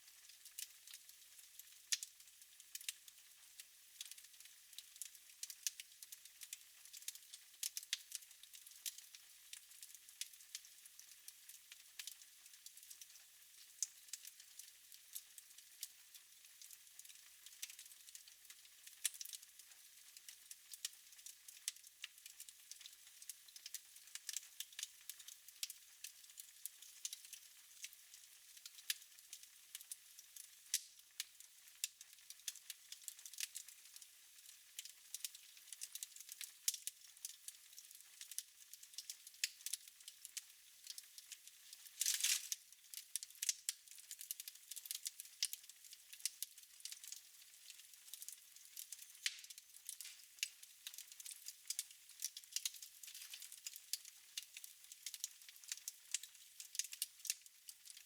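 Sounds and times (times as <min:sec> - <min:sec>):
wood fire crackling: 0:00.1 - 0:11.2, 0:12.0 - 0:58.0.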